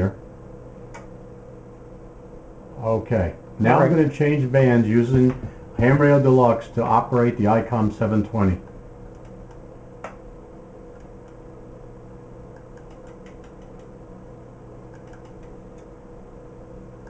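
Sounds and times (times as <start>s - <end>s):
equipment hum: 0.0s - 17.0s.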